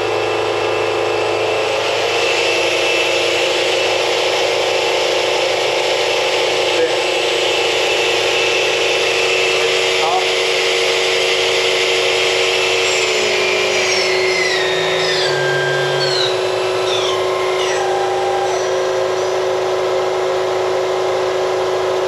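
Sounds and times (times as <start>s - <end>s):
motor whines stepping down: 0.0s - 22.0s.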